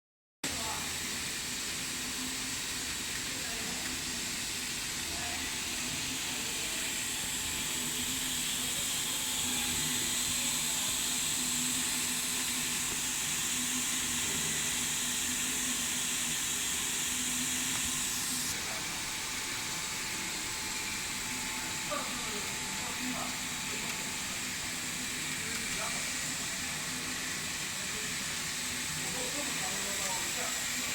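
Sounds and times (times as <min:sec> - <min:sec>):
filament extrusion line hiss: 0:00.5 - 0:30.9.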